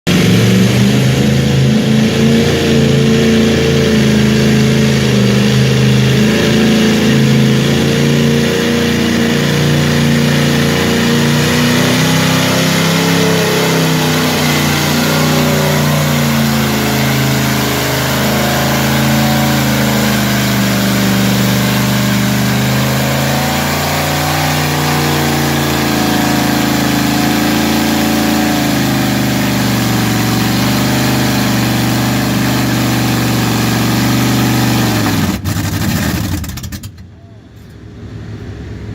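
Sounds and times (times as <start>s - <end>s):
truck engine revving: 0.0s - 37.1s.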